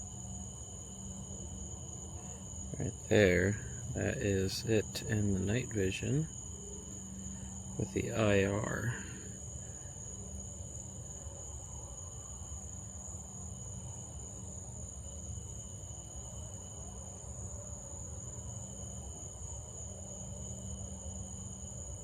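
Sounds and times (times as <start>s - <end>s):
low steady hum: 0.0s - 21.8s
crickets trilling: 0.0s - 22.0s.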